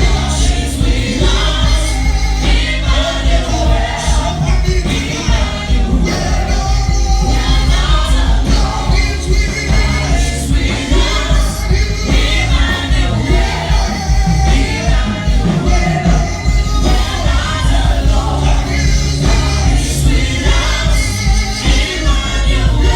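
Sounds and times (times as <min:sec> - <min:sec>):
live band playing: 0:00.0 - 0:22.9
strong steady bass: 0:00.0 - 0:22.9.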